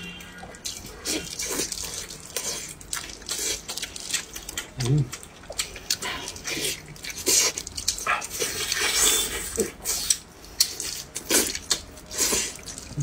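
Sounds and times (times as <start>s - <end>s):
wet chewing and lip-smacking: 0.2s - 13.0s.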